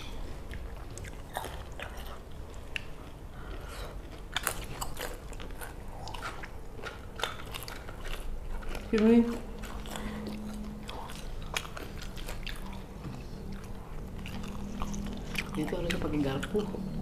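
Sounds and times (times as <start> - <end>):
people biting and chewing crunchy food: 0.0 - 17.0.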